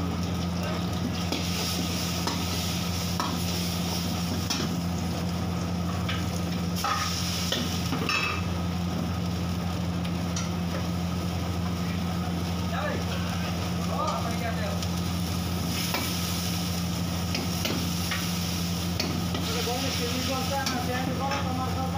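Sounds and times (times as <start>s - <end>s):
vegetables sizzling in oil: 0.0s - 21.9s.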